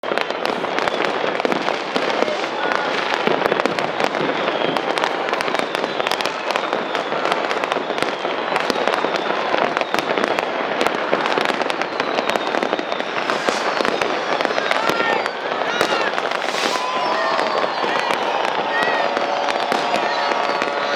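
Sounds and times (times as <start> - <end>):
firework whistles falling in pitch: 0.0 - 20.9
fireworks bangs and crackles: 0.0 - 20.9.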